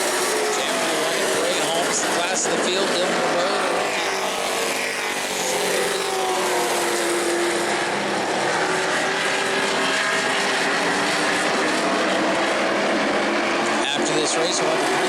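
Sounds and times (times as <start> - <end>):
race truck engines droning: 0.0 - 15.0.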